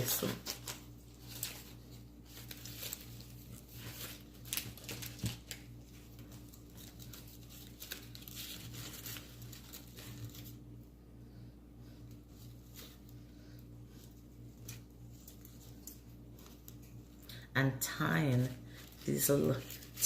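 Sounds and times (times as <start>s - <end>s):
rustling and crinkling: 0.0s - 10.7s, 11.9s - 17.3s, 18.1s - 20.0s
steady low hum: 0.0s - 20.0s.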